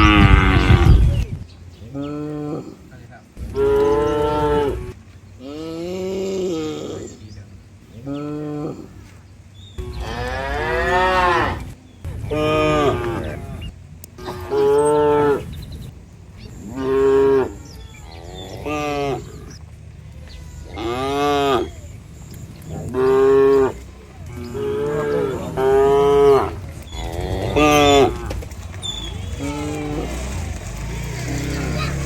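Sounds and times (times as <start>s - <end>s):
cattle mooing: 0.0s - 1.2s, 3.4s - 7.2s, 9.8s - 32.0s.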